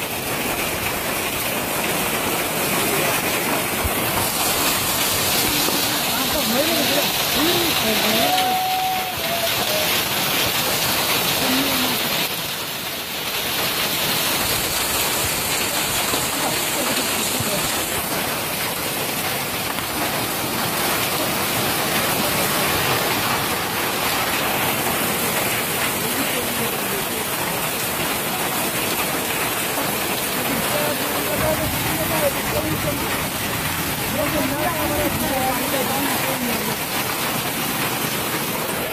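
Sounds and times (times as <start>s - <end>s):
hail and heavy rain pelting: 0.0s - 38.9s.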